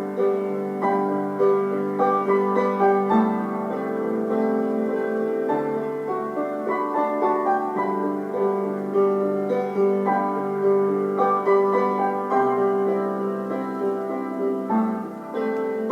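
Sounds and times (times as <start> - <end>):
gentle piano music: 0.0 - 15.9.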